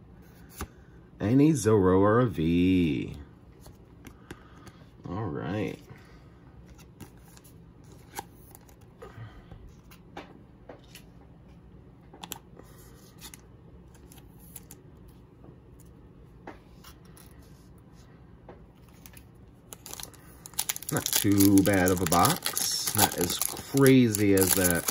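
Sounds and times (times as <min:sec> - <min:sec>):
faint room hum: 0:00.0 - 0:24.9.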